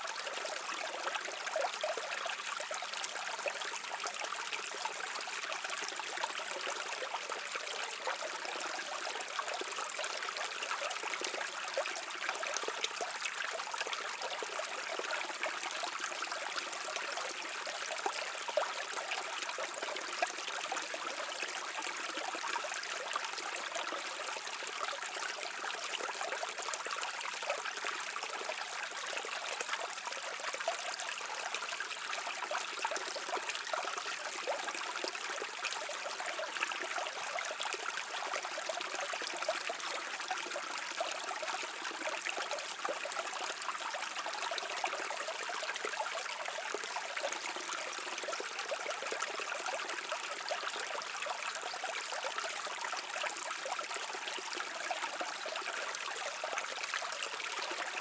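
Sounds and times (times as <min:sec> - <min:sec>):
stream water trickling over stones: 0:00.0 - 0:58.0.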